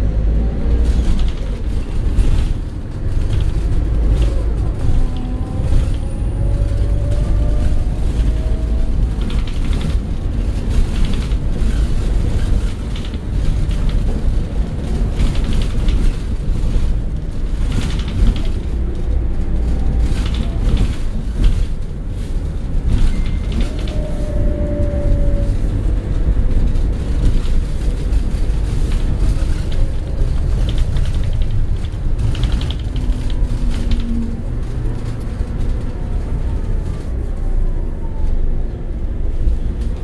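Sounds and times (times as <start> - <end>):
coach engine and road rumble: 0.0 - 40.0
interior rattles and creaks: 0.0 - 40.0.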